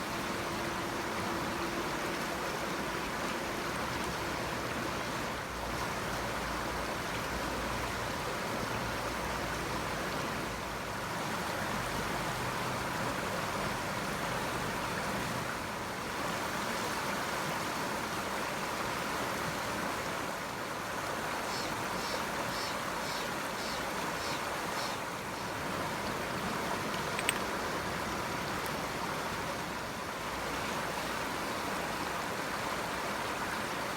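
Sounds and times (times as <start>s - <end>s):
running water rushing: 0.0s - 33.9s.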